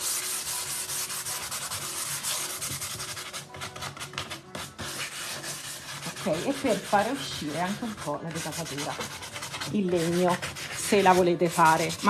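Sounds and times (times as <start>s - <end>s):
sandpaper scratching on wood: 0.0s - 12.0s.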